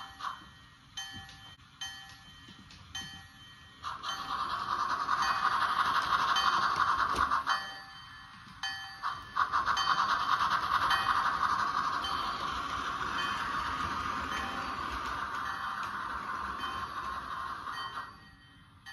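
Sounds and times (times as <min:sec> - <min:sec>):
model steam train chuffing: 0:00.0 - 0:00.5, 0:03.7 - 0:18.9.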